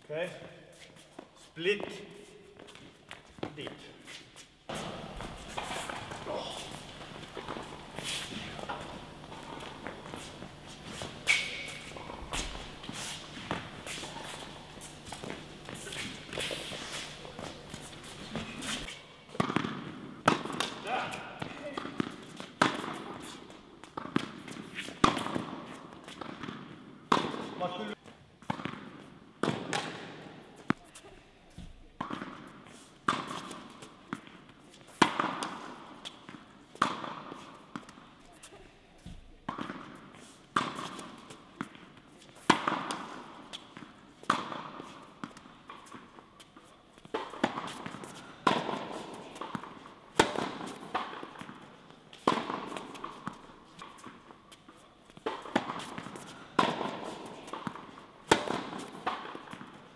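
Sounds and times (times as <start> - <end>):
tennis balls bouncing: 4.7 - 27.6, 28.4 - 38.4, 39.0 - 59.9
tennis balls struck by rackets: 4.7 - 31.0, 31.6 - 38.4, 39.0 - 59.9.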